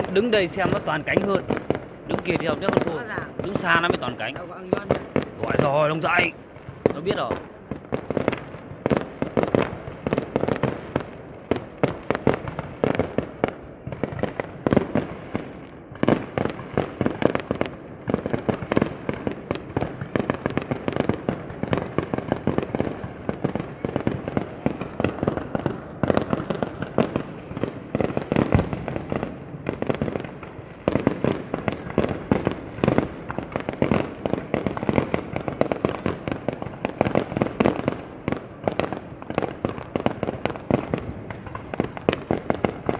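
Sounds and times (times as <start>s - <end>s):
fireworks bangs and booms: 0.0s - 42.9s.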